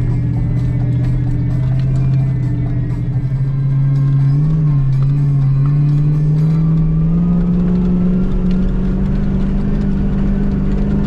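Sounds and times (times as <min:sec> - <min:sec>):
vehicle engine driving through sand: 0:00.0 - 0:11.0.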